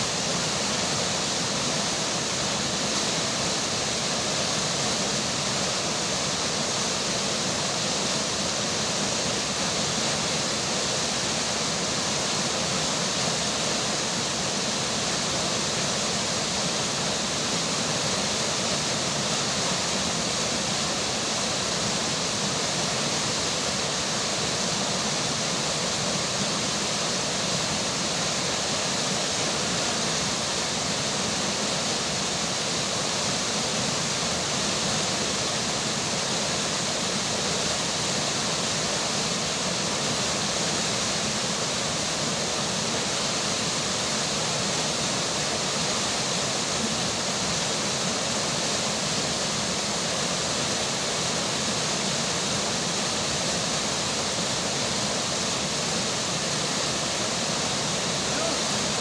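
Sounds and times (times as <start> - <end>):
rainfall: 0.0 - 59.0
river water rushing: 0.0 - 59.0.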